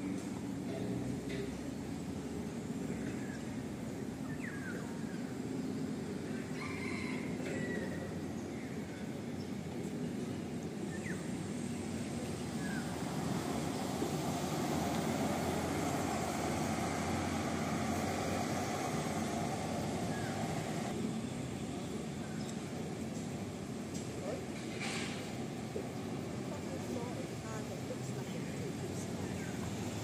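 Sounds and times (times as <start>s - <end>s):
bus engine and road noise: 0.0s - 30.0s.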